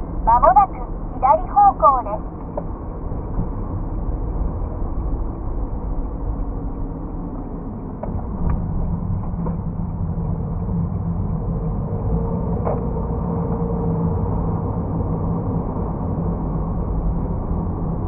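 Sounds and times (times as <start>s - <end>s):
low rumble and hum: 0.0s - 18.0s.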